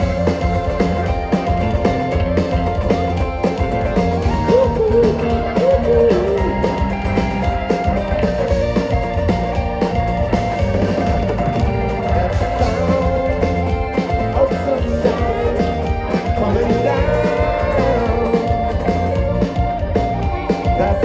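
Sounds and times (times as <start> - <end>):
live band playing instrumental: 0.0 - 21.0
wavering melody line: 0.0 - 21.0.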